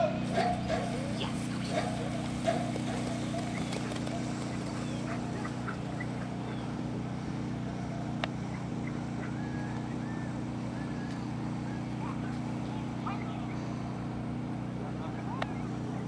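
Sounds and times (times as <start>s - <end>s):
motor humming steadily: 0.0s - 16.0s.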